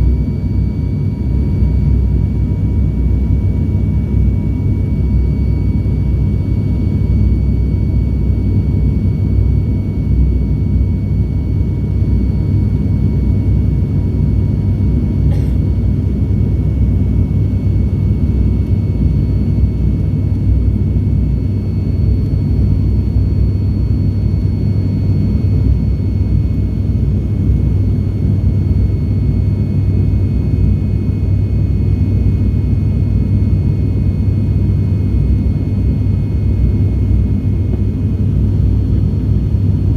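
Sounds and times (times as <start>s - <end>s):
turboprop engines rumbling in cabin: 0.0s - 39.9s.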